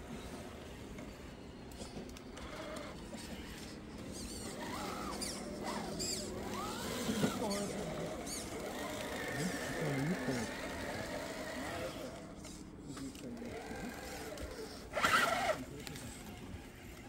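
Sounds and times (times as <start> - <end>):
toy electric motor whining: 0.1 - 17.0.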